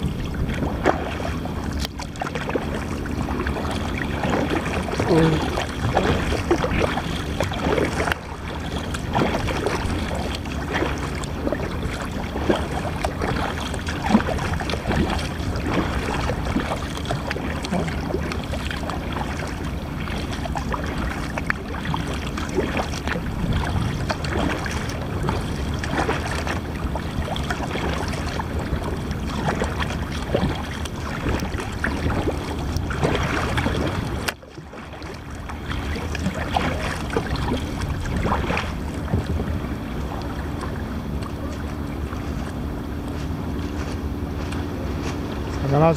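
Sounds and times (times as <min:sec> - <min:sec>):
water lapping against hull: 0:00.0 - 0:45.9
wind buffeting microphone: 0:02.6 - 0:34.3, 0:35.6 - 0:45.9.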